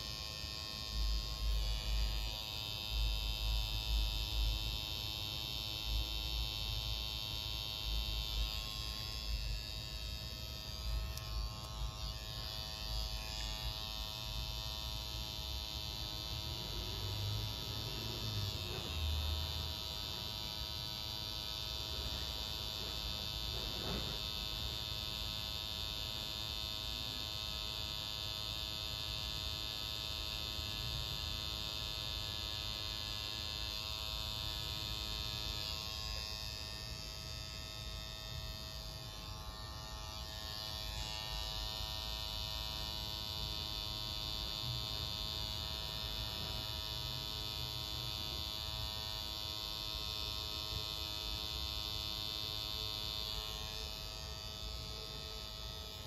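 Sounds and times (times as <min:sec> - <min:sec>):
tattoo machine buzzing: 0:00.0 - 0:56.0.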